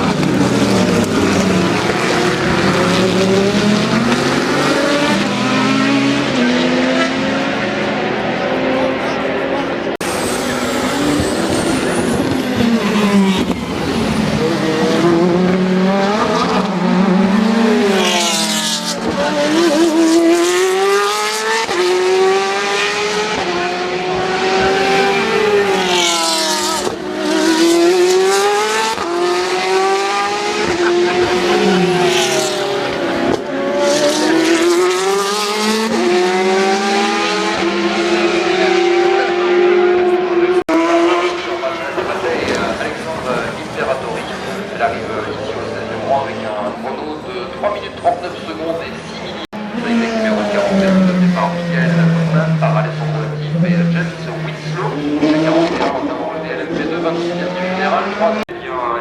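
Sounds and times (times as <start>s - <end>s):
race cars passing: 0.0s - 59.0s.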